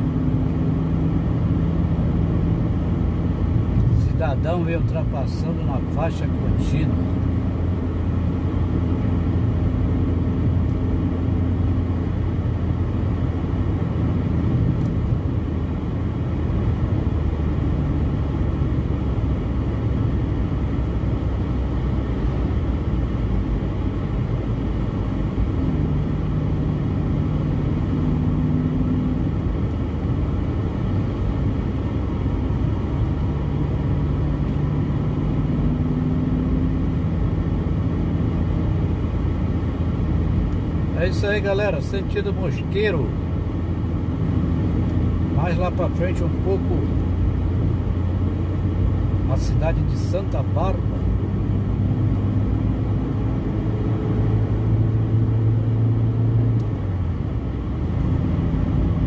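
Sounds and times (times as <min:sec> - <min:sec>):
car engine hum: 0:00.0 - 0:59.0.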